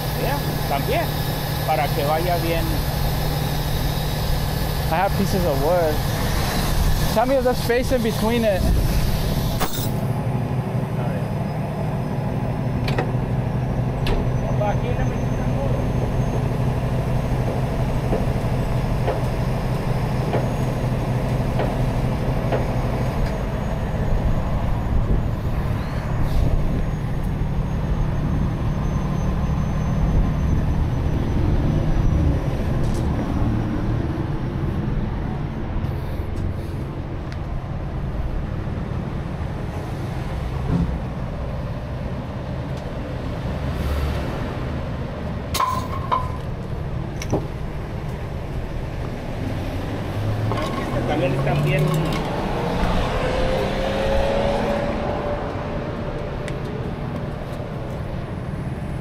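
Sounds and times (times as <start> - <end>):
truck diesel engine humming: 0.0 - 59.0.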